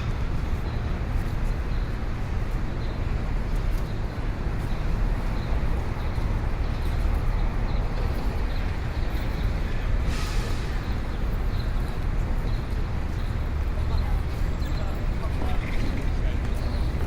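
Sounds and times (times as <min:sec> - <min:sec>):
hum of people: 0:00.0 - 0:17.0
low rumble of traffic: 0:00.0 - 0:17.0.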